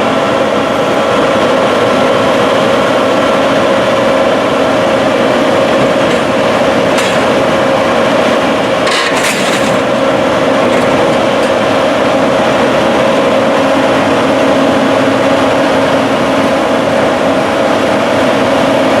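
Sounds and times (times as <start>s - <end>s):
combine harvester drone: 0.0s - 19.0s.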